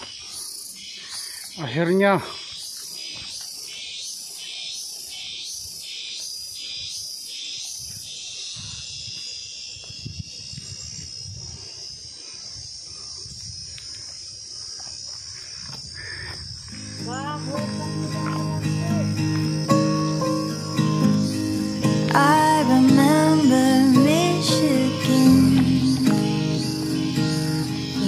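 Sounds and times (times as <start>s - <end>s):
high-pitched insect drone: 0.0s - 28.0s
insects pulsing buzz: 0.0s - 28.0s.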